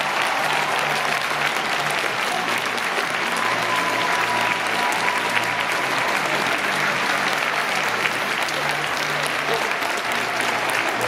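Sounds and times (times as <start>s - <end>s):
audience applauding: 0.0s - 11.0s
low music: 0.0s - 11.0s.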